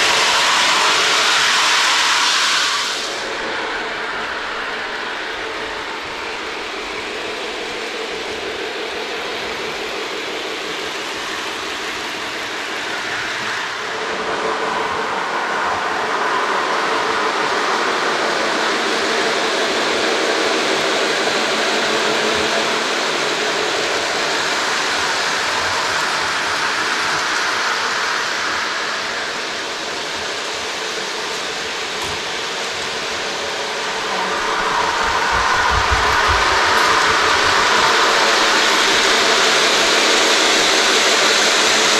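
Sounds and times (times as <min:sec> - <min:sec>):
toy train motor hum: 0:00.0 - 0:41.9
wheels rumbling on metal rails: 0:03.0 - 0:41.9.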